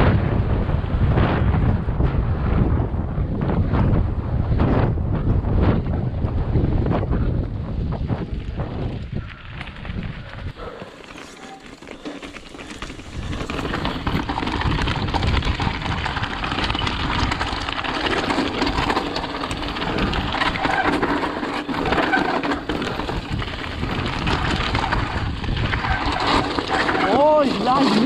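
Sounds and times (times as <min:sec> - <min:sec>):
bike rattling and clattering: 0:00.0 - 0:28.0
bike tyres on dirt trail: 0:00.0 - 0:28.0.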